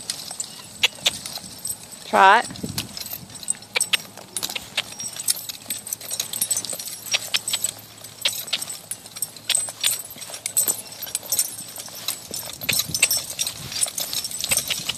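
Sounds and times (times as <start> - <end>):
hoofbeats on dry turf: 0.0 - 14.9
horse tack jingling: 0.0 - 14.9.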